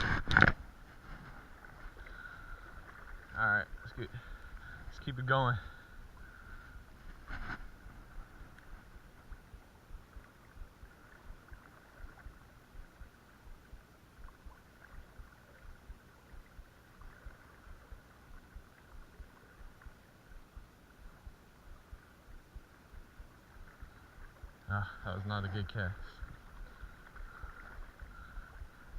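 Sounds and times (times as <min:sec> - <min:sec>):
creek water running: 0:00.0 - 0:28.9.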